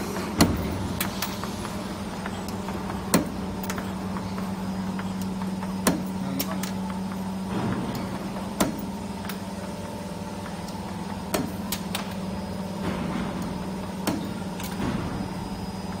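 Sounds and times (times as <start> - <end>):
machine mechanical hum: 0.0 - 16.0.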